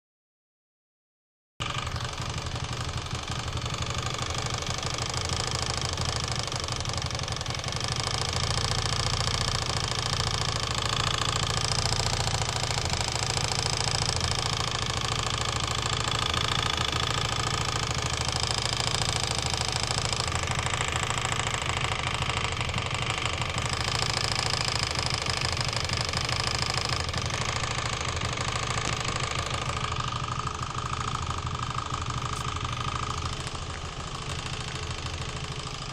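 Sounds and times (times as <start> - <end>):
engine running: 1.6 - 35.9
rapid engine knock: 1.6 - 35.9.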